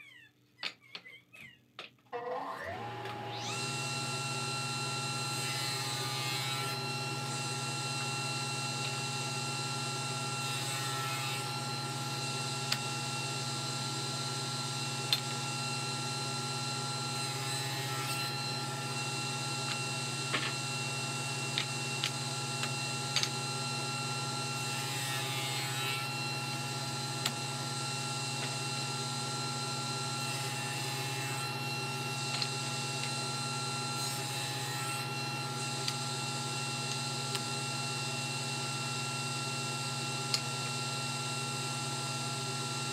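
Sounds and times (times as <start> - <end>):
table saw motor running: 2.2 - 42.9.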